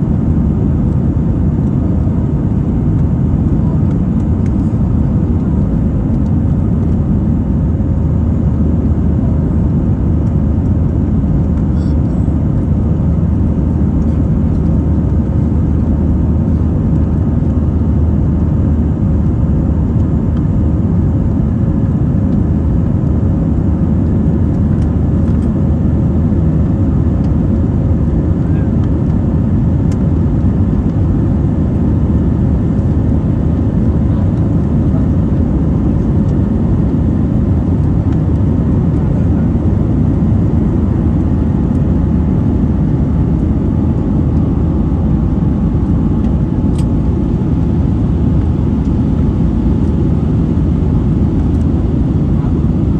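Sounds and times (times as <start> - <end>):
airplane cabin rumble: 0.0 - 52.9
faint steady hum: 0.0 - 52.9.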